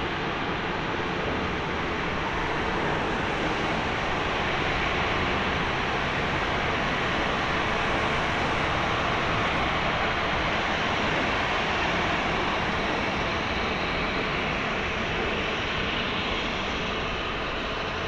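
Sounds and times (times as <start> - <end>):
jet engines at low thrust: 0.0 - 18.0.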